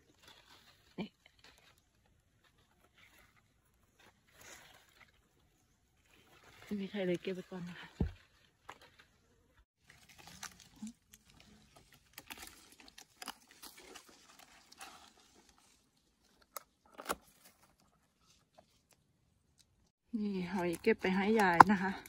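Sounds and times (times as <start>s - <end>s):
dry leaves and twigs rustling: 0.0s - 19.0s.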